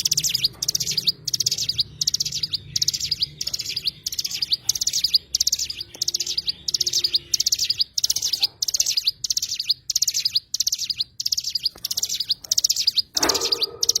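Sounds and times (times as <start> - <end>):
bird chirping high-pitched call: 0.0 - 14.0.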